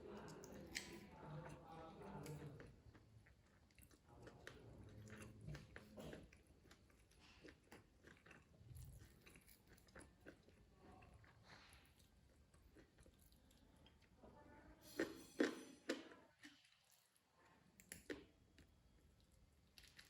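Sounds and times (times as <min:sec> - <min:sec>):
person chewing food: 0:00.0 - 0:14.2, 0:15.0 - 0:20.0.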